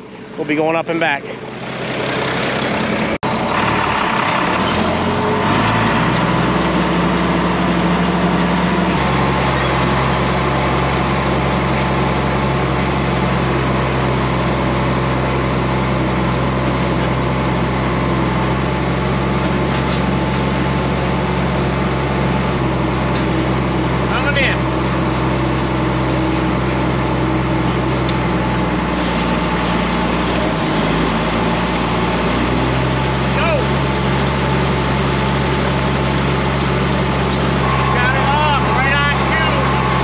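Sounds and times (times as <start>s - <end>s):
tractor engine running under load: 0.0s - 40.0s.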